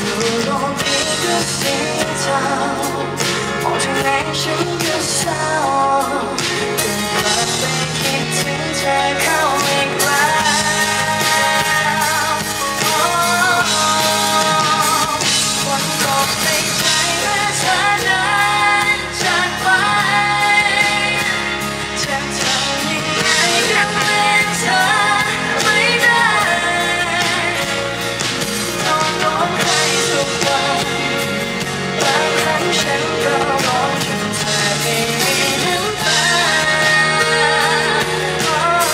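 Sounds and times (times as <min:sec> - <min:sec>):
guitar accompaniment: 0:00.0 - 0:38.9
woman singing a pop ballad: 0:00.0 - 0:38.9.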